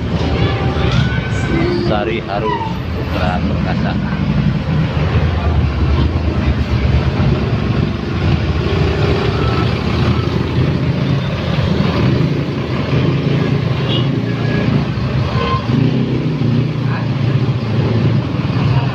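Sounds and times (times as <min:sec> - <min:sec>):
bus engine running: 0:00.0 - 0:18.9.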